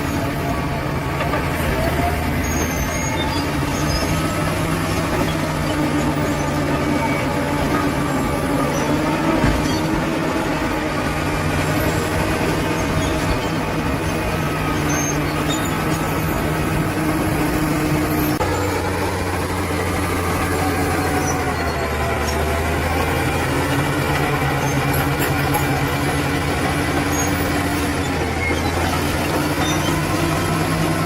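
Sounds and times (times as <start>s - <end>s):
bulldozer diesel engine: 0.0s - 31.0s.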